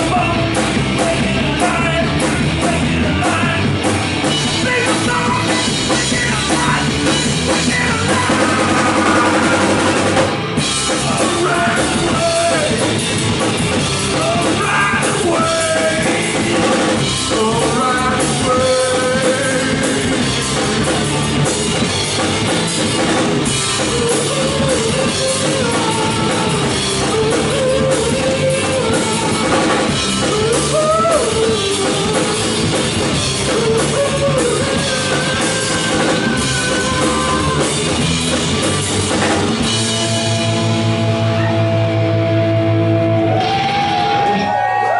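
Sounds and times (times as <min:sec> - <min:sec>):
drum kit: 0:00.0 - 0:44.9
rock band playing live: 0:00.0 - 0:44.9.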